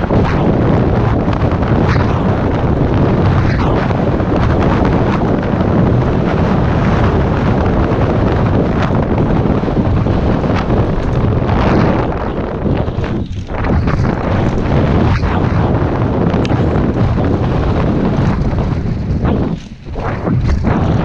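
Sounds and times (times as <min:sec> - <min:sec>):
bike knocking on bumps: 0:00.0 - 0:21.0
tyres rumbling on dirt: 0:00.0 - 0:21.0
wind rushing over microphone: 0:00.0 - 0:21.0.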